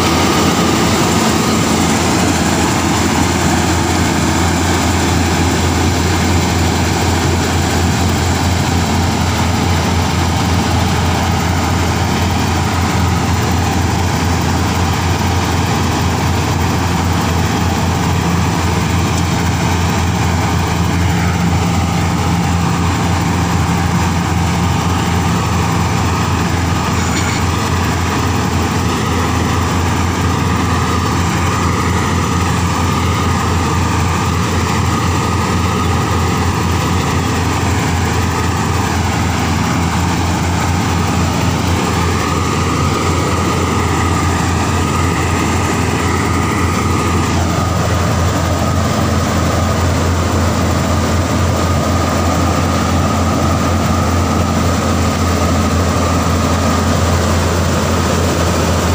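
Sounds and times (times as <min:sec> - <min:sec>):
combine harvester engine drone: 0:00.0 - 0:58.9
rush of threshing works: 0:00.0 - 0:58.9.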